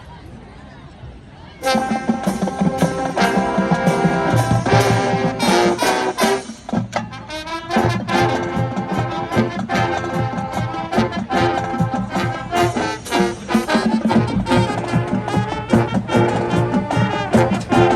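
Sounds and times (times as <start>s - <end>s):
drumline hits: 1.6s - 17.9s
marching band brass tune: 1.6s - 17.9s.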